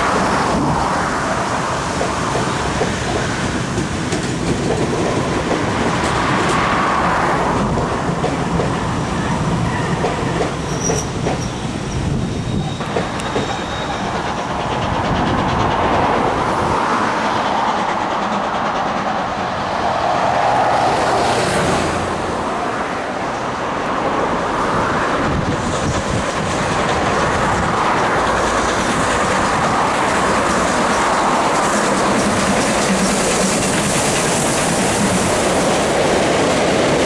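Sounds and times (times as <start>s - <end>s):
train wheels rolling on track: 0.0s - 37.0s.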